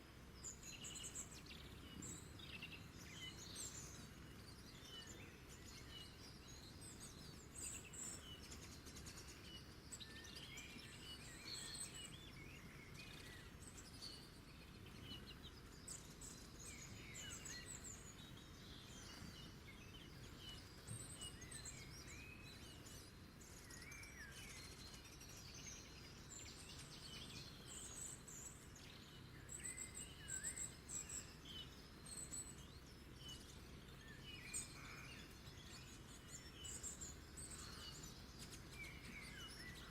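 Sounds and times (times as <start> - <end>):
low background hiss: 0.0 - 39.9
small birds chirping: 0.0 - 39.9.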